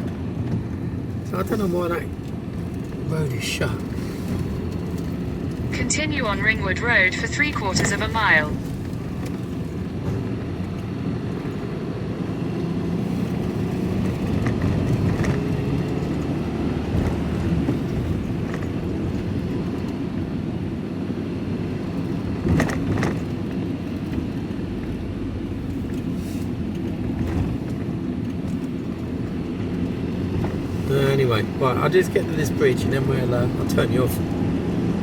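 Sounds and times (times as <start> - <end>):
van engine and road noise: 0.0 - 35.0.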